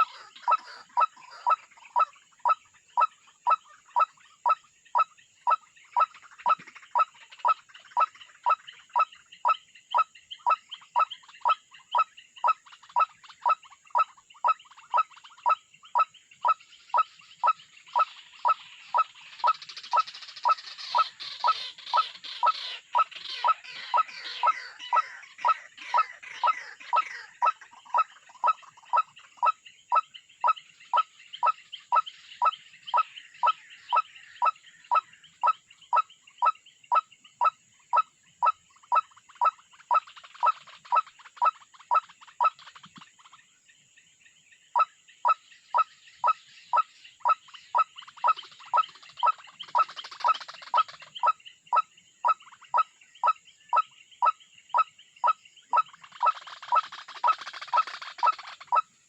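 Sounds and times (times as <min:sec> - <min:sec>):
faint high bird chatter: 0:00.0 - 0:59.0.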